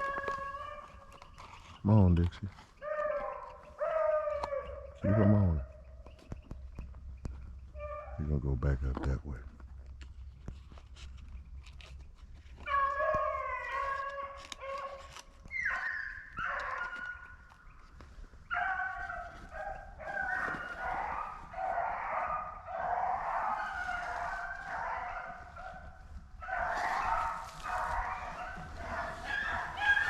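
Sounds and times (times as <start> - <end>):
hounds baying: 0.0 - 2.0, 2.6 - 8.6, 12.6 - 30.0.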